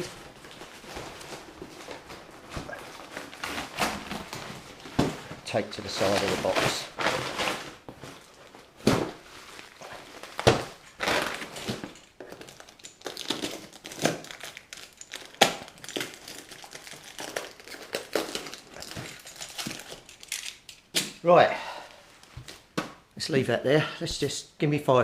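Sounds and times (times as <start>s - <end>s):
packing material crinkling: 0.0s - 20.9s.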